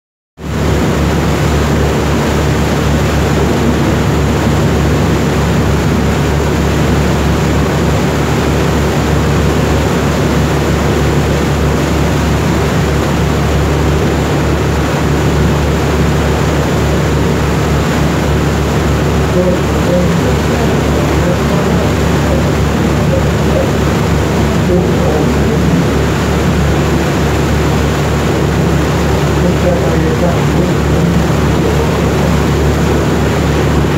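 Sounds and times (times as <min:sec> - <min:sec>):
boat engine droning: 0:00.4 - 0:33.9
rushing water: 0:00.4 - 0:33.9
wind: 0:00.4 - 0:33.9.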